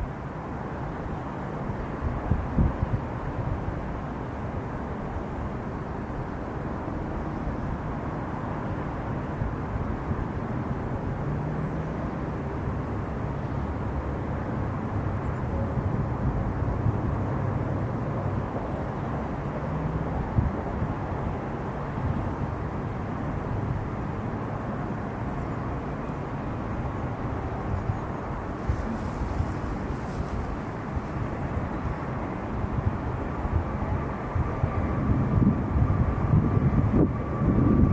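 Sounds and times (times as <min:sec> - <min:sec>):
jet airliner engine rumble: 0:00.0 - 0:37.9.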